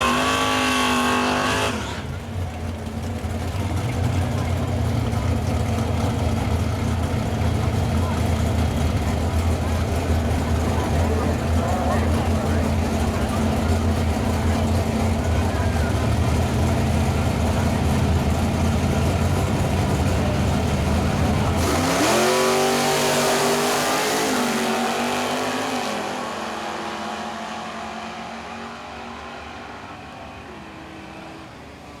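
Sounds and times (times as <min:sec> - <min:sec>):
drag car engine revving: 0:00.0 - 0:32.0.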